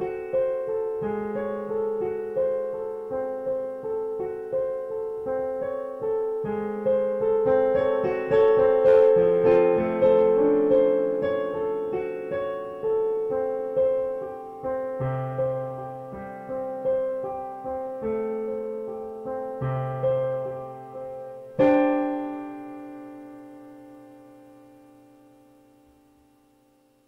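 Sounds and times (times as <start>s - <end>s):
slow solo piano: 0.0s - 27.0s.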